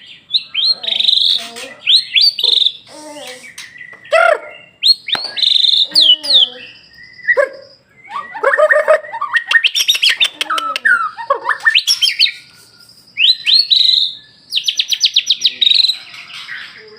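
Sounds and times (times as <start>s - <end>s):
songbird whistles and trills: 0.0s - 16.9s.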